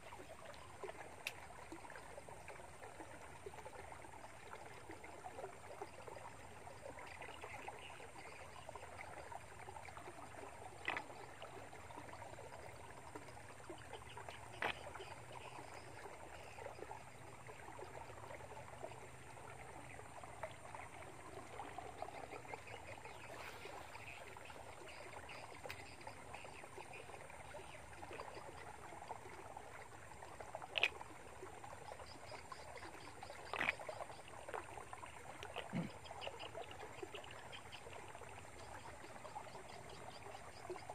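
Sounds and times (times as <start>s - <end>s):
faint outdoor ambience: 0.0s - 40.9s.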